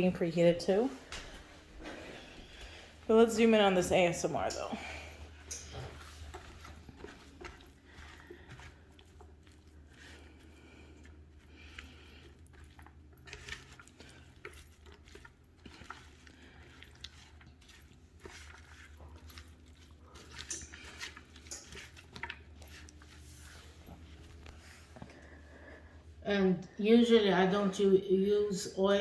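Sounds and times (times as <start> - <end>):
squishy food rustling: 1.0 - 25.9.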